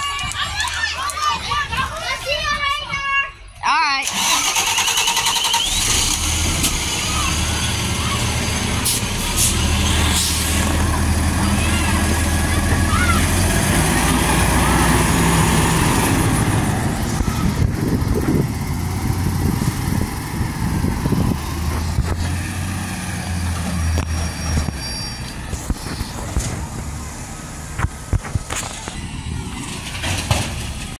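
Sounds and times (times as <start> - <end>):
bus engine low hum: 4.1 - 31.0.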